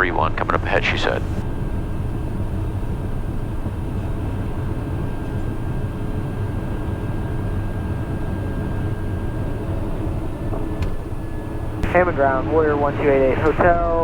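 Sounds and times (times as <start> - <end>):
faint high whine: 0.0 - 14.0
turboprop engine drone: 0.0 - 14.0.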